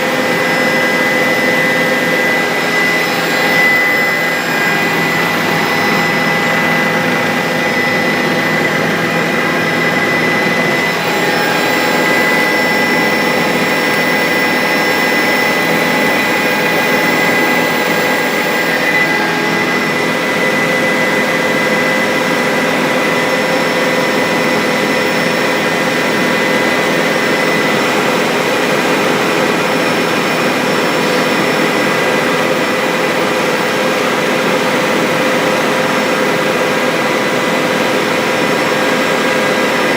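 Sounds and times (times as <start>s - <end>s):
helicopter engine and rotor: 0.0s - 39.9s
high whine: 0.0s - 39.9s.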